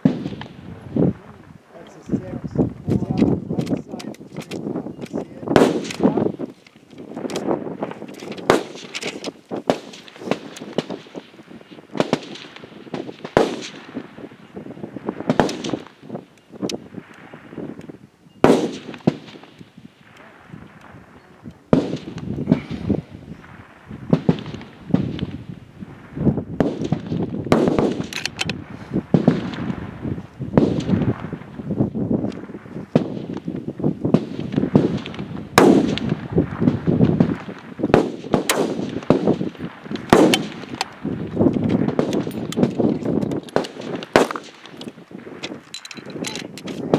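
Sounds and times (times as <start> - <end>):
rifle shots with echo: 0.0 - 0.7, 3.2 - 6.4, 7.1 - 14.4, 15.0 - 17.6, 18.4 - 25.5, 26.6 - 31.6, 32.4 - 33.5, 34.1 - 46.9.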